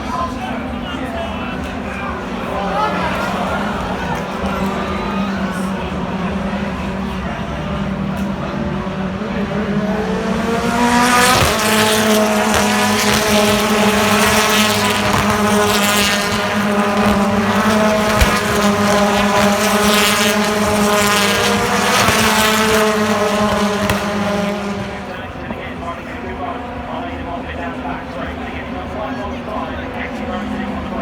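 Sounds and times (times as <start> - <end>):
racing car engines at full throttle: 0.0 - 31.0.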